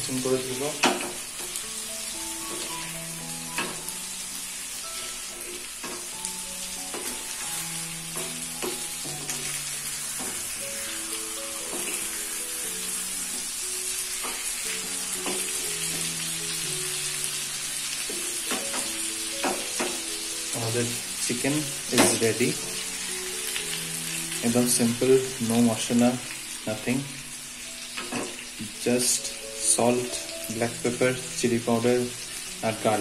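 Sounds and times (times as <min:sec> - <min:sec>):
chicken sizzling in butter: 0:00.0 - 0:33.0
soft background music: 0:00.0 - 0:33.0.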